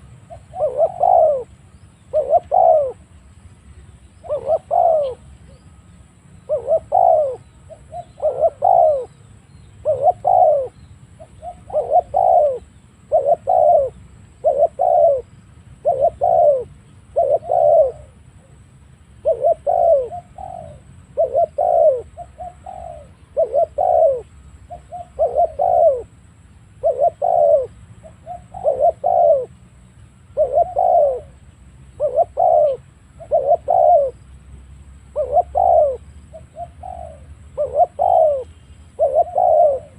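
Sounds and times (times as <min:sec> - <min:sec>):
dove cooing: 0:00.0 - 0:03.3, 0:04.1 - 0:39.9.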